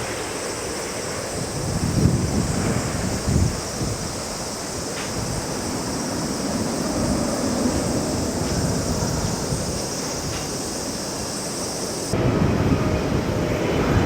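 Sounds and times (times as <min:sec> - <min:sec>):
jet engines roaring: 0:00.0 - 0:14.0
wind: 0:00.0 - 0:14.0.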